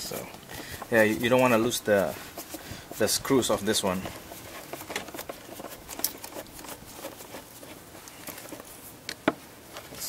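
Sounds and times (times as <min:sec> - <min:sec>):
screwdriver ticking and scraping: 0:00.0 - 0:08.7.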